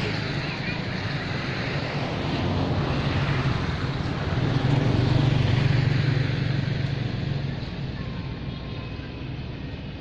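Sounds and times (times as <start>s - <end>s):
vehicle engine passing by: 0.0s - 10.0s.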